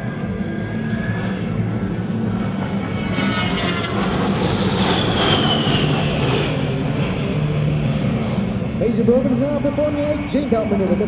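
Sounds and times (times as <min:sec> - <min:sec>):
jet passing by roaring: 0:00.0 - 0:11.0.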